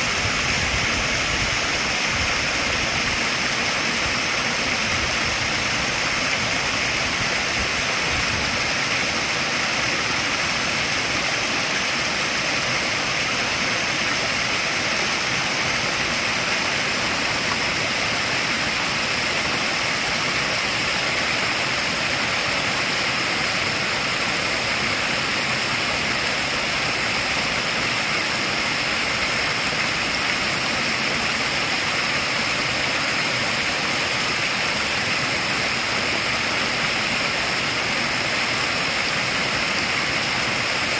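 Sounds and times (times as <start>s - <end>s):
waterfall splashing into pond: 0.0s - 40.9s.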